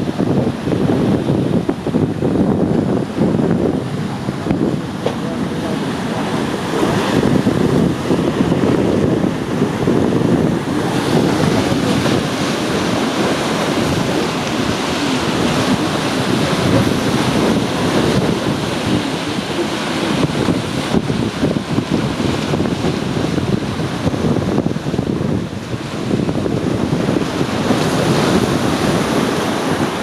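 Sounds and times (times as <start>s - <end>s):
sea water washing: 0.0s - 30.0s
wind buffeting microphone: 0.0s - 30.0s.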